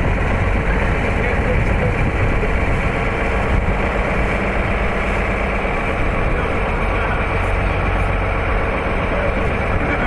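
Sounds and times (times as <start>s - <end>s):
heavy truck engine running: 0.0s - 10.0s.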